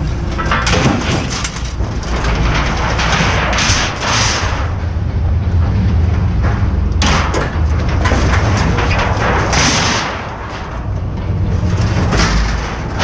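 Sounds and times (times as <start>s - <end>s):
low rumble: 0.0s - 13.0s
scrap metal clattering and scraping: 0.0s - 13.0s.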